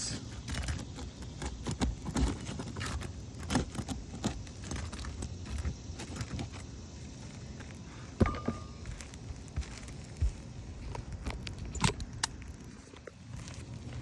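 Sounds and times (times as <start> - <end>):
shingle crumbling crackles: 0.1 - 14.0.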